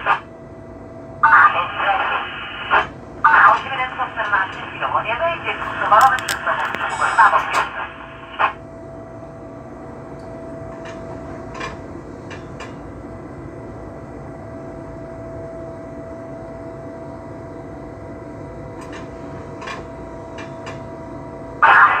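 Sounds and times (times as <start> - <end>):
electric train running noise: 0.0 - 22.0.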